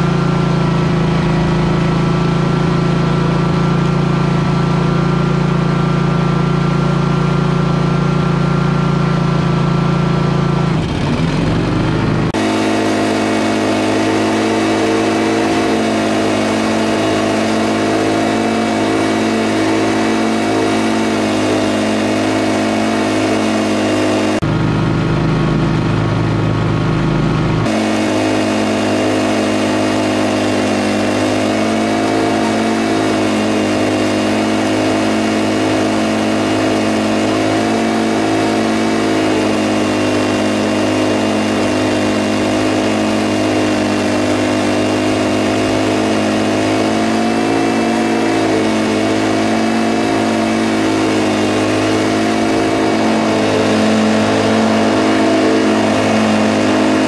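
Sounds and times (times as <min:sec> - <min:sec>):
lawn mower running: 0:00.0 - 0:57.0.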